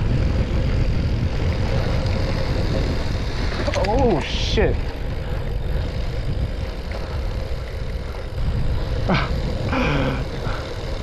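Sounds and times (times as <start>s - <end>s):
bike tyres rolling on dirt: 0.0s - 11.0s
wind on microphone: 0.0s - 11.0s.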